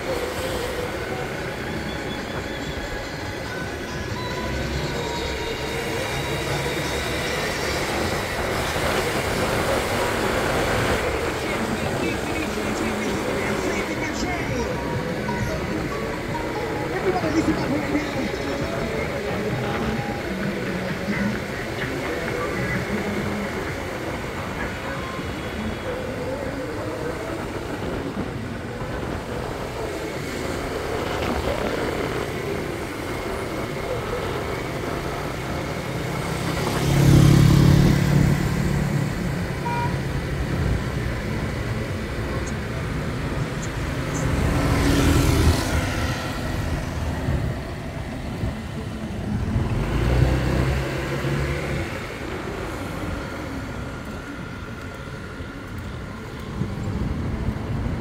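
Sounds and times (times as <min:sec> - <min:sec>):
motorbike road noise: 0:00.0 - 0:58.0
vehicles passing by: 0:03.5 - 0:58.0.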